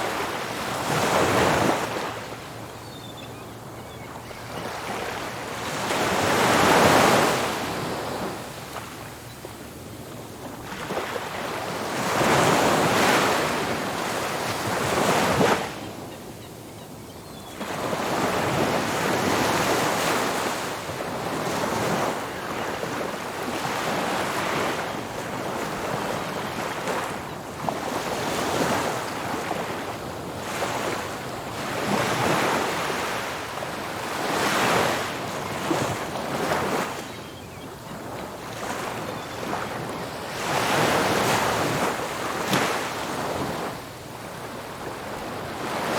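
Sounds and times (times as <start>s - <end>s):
ocean waves breaking on beach: 0.0s - 2.7s, 4.4s - 9.2s, 9.8s - 16.1s, 17.6s - 45.9s.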